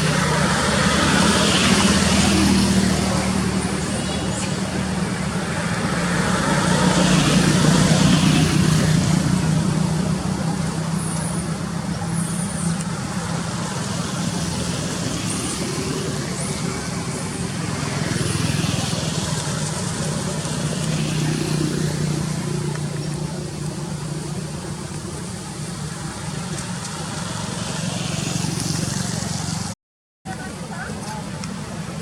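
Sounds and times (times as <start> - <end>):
vehicle engines on a road: 0.0 - 32.0.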